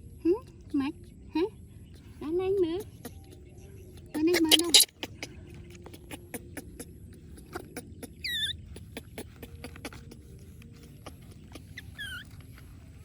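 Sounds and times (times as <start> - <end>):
baby monkey squeaking: 2.6 - 13.0.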